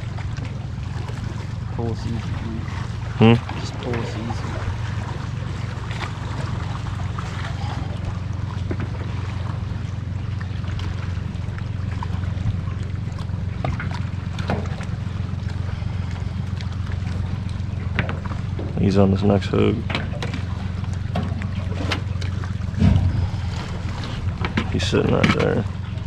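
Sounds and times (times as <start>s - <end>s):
boat motor humming: 0.0s - 26.0s
faint water splashes: 0.0s - 26.0s.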